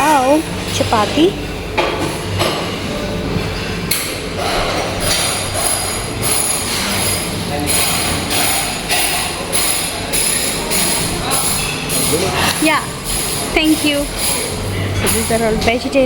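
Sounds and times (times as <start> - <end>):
dishes clattering: 0.0 - 15.9
diners' voices: 0.0 - 16.0.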